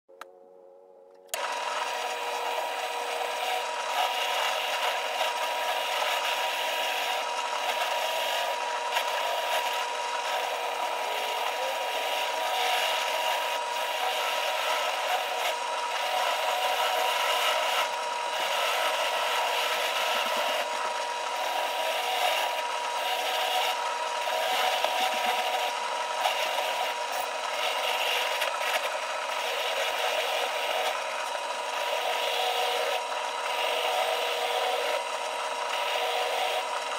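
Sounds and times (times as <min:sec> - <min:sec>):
motor whine: 0:00.1 - 0:36.9.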